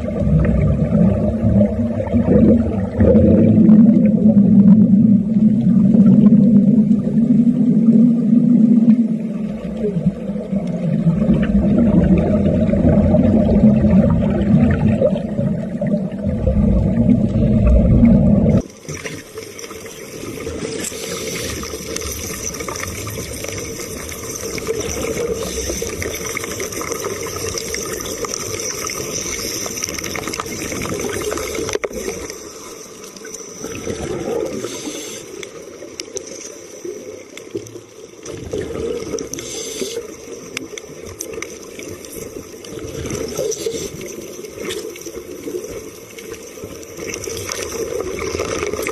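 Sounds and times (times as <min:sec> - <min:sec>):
underwater welding crackling and bubbling: 0:00.0 - 0:48.9.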